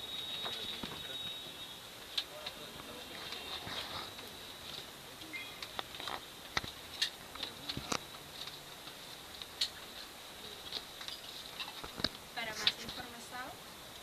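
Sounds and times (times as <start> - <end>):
faint high-pitched whine: 0.0 - 14.0.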